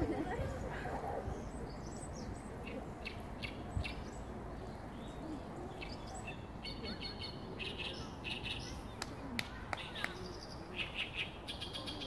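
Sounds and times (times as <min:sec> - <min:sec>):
small songbirds chirping: 0:01.0 - 0:09.1, 0:09.8 - 0:12.0.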